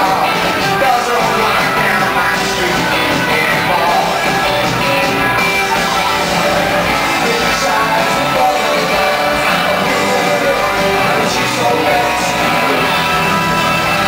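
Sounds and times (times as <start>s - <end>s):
drums: 0.0s - 14.0s
electric guitar: 0.0s - 14.0s
keyboard: 0.0s - 14.0s
person singing: 0.0s - 14.0s.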